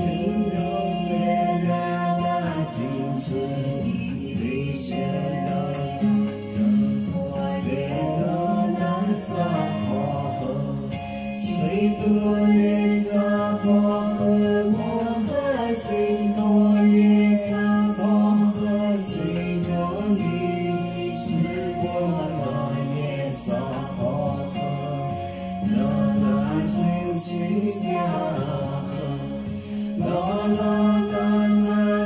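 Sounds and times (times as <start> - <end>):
person singing slow melody: 0.0 - 32.0.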